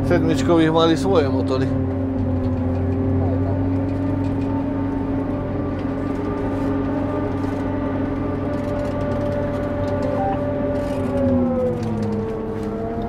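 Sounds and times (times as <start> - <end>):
harvester droning with whine: 0.0 - 13.0.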